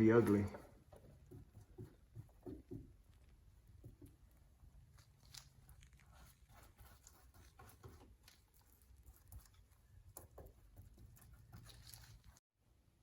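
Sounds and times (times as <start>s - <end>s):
ticks and rustles of hand work: 0.0s - 12.4s.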